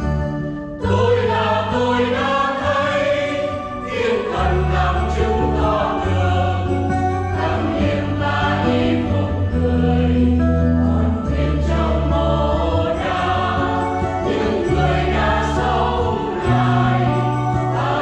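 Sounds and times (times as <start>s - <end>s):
acoustic guitar: 0.0s - 18.0s
choir singing a hymn: 0.0s - 18.0s.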